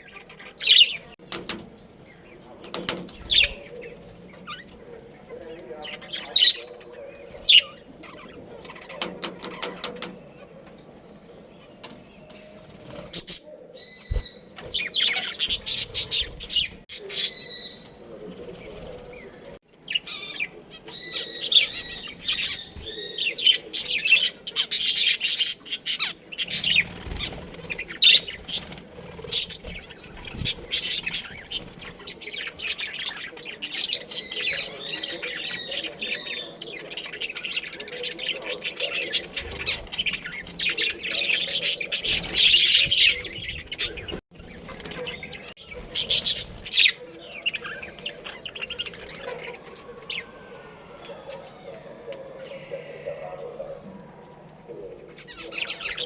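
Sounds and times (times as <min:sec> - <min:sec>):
budgerigars chattering: 0:00.0 - 0:50.9, 0:54.7 - 0:56.0.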